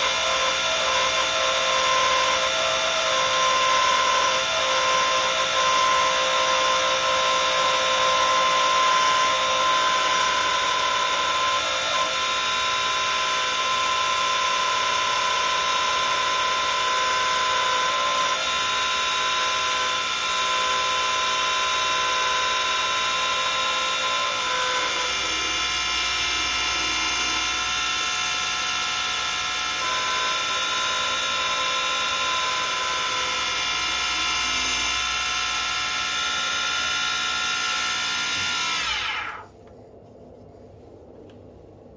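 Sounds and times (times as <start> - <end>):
wood lathe motor whine: 0.0 - 39.6.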